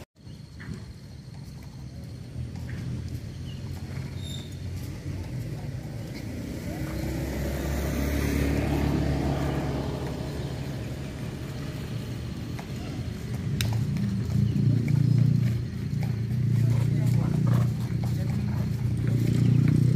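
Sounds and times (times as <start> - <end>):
vehicle engine passing by: 2.2 - 19.9.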